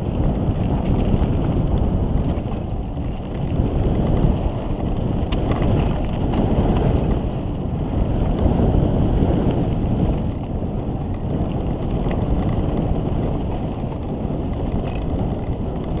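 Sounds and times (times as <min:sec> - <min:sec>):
bike clicks and rattles: 0:00.0 - 0:16.0
wind on microphone: 0:00.0 - 0:16.0.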